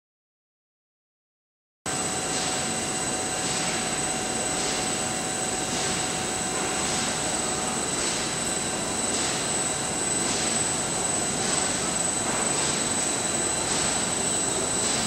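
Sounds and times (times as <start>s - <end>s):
high whine: 1.9s - 15.0s
machine drone: 1.9s - 15.0s.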